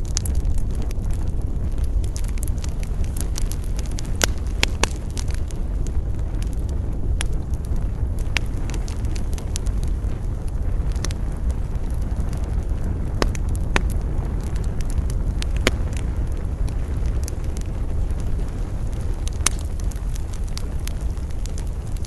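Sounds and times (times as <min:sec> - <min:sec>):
campfire crackling: 0:00.0 - 0:22.0
wind rumble: 0:00.0 - 0:22.0.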